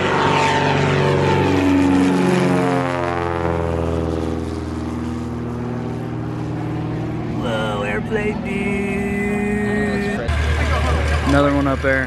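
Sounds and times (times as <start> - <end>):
propeller aircraft passing: 0.0 - 12.0.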